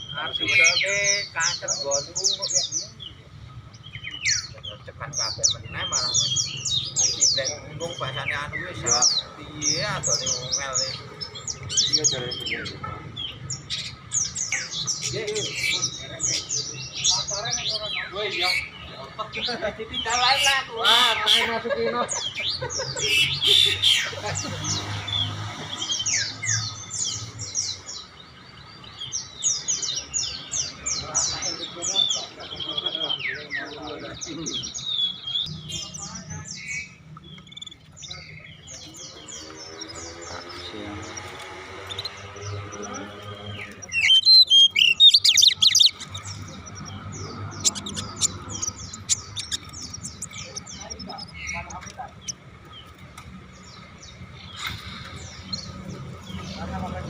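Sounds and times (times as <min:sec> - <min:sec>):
bird rapid calls: 0:00.0 - 0:57.0
songbirds chirping and twittering: 0:00.0 - 0:57.0.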